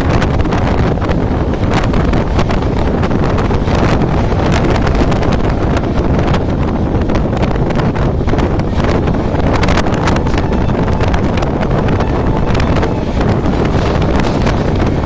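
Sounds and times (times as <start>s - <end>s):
train running rumble: 0.0s - 15.0s
wind rushing over microphone: 0.0s - 15.0s.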